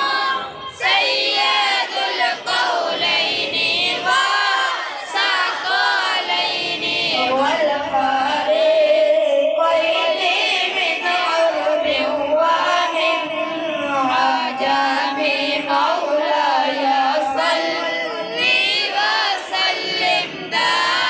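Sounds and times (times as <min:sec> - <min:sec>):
person singing devotional chant: 0:00.0 - 0:21.0.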